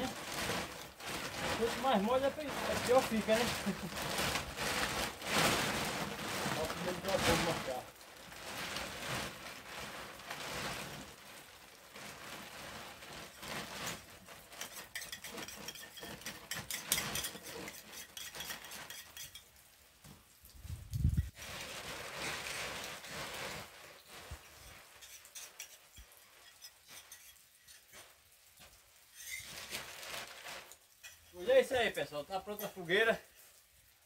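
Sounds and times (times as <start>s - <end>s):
plastic sheeting rustling: 0.0s - 34.0s.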